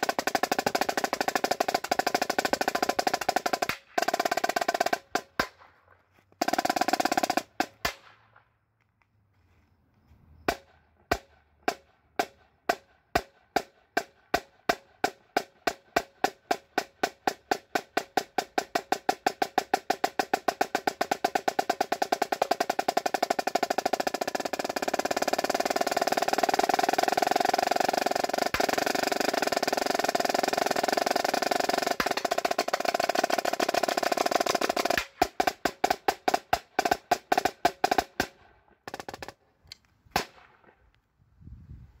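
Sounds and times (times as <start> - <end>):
snare drum roll: 0.0 - 5.6, 6.4 - 8.0, 11.7 - 38.3.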